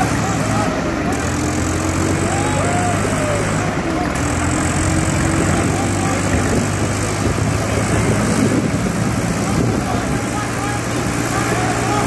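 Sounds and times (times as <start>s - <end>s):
tractor diesel engines running: 0.0s - 12.0s.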